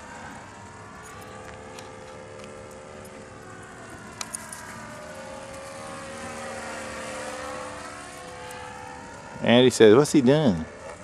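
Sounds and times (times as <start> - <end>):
model plane motor whining: 0.0 - 11.0.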